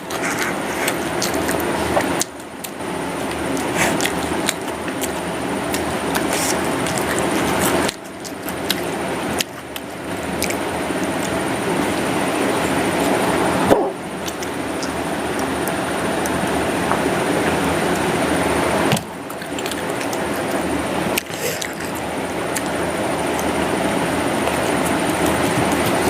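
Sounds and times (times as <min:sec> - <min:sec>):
chewing and crunching fried food: 0:00.0 - 0:26.0.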